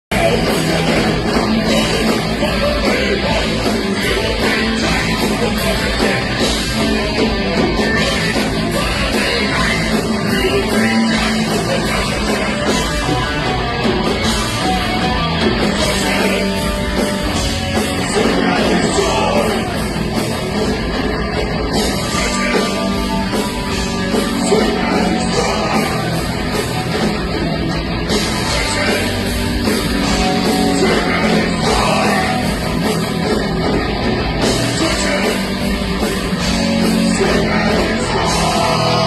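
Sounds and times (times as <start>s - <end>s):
bass guitar: 0.0s - 39.0s
distorted electric guitars: 0.0s - 39.0s
drum kit: 0.1s - 39.0s.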